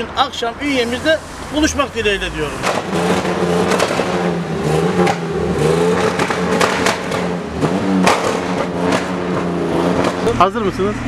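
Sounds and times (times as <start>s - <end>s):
engine revving: 0.6s - 11.0s.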